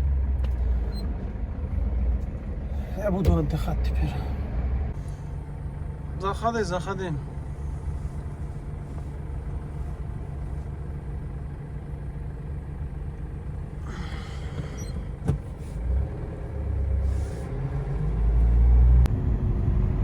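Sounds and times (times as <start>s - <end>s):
road rumble: 0.0s - 20.0s
van engine drone: 0.0s - 20.0s.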